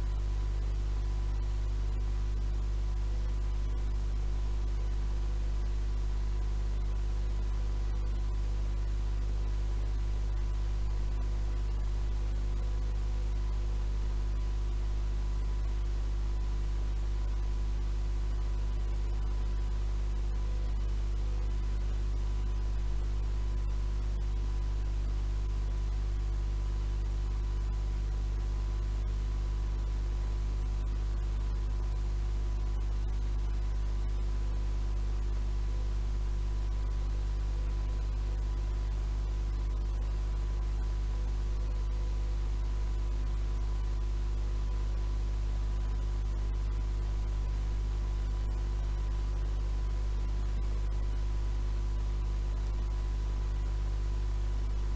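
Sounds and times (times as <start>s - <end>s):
low mains hum: 0.0s - 54.9s
tape hiss: 0.0s - 54.9s.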